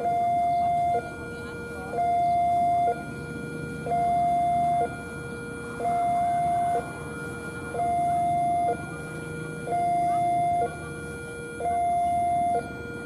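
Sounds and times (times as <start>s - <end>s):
two-tone electronic alarm: 0.0s - 13.0s.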